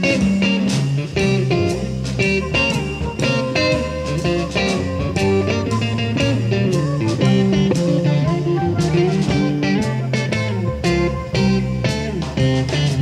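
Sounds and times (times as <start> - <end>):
blues-rock music with guitar: 0.0 - 13.0.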